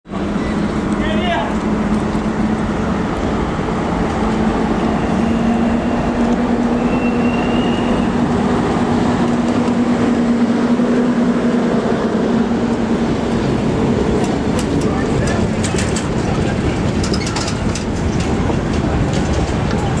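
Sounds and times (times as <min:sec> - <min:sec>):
electric locomotive hum: 0:00.1 - 0:20.0
wheels rumbling on rails: 0:00.1 - 0:20.0.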